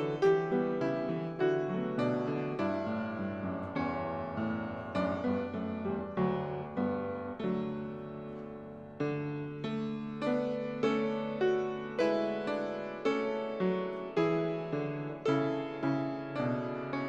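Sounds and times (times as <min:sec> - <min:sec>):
slow quiet piano piece: 0:00.0 - 0:17.0.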